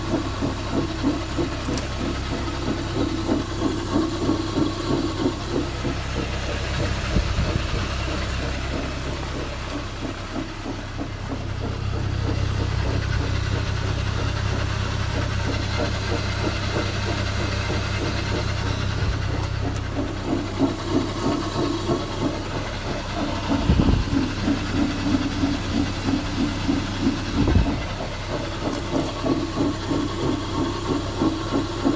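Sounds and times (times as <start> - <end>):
rhythmic pulsing wheel rumble: 0.0 - 31.9
vehicle running hum: 0.0 - 31.9.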